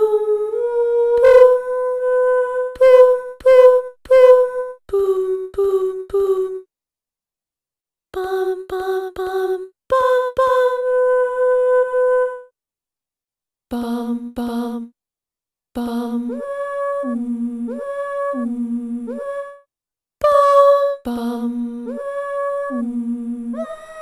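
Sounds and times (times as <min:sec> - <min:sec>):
sampled female voice singing: 0:00.0 - 0:06.7, 0:08.1 - 0:12.5, 0:13.7 - 0:15.0, 0:15.8 - 0:24.0.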